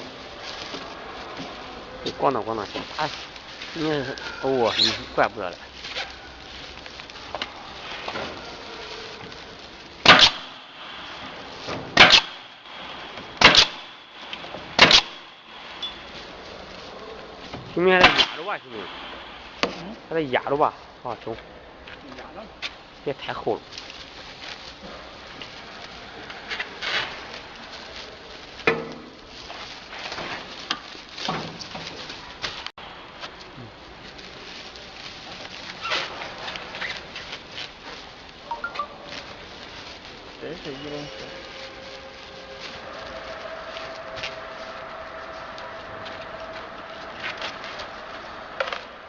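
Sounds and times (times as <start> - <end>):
handling scuffing and rustling: 0.0 - 49.0.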